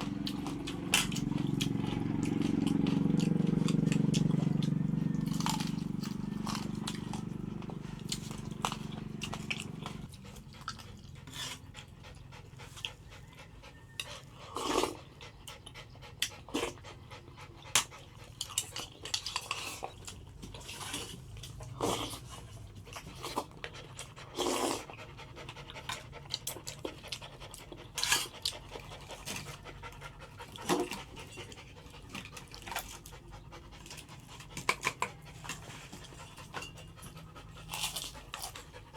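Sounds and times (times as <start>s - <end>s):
dog panting: 0.0s - 38.9s.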